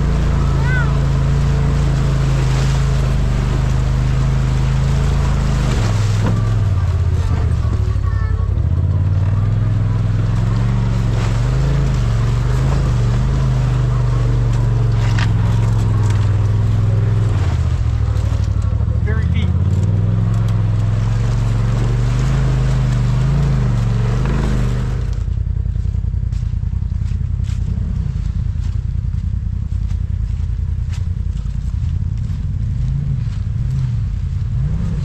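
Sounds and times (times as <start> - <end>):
off-road vehicle engine running: 0.0 - 35.0.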